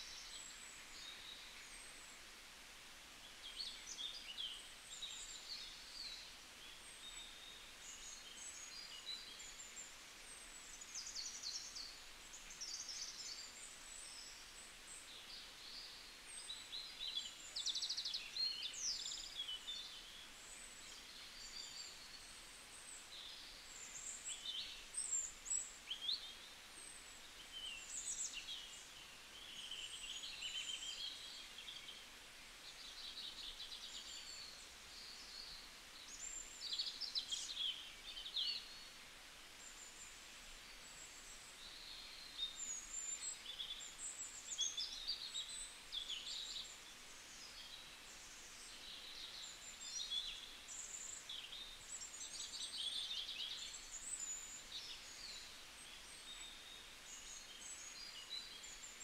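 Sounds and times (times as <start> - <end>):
faint outdoor background noise: 0.0 - 59.0
small birds chirping: 3.2 - 59.0.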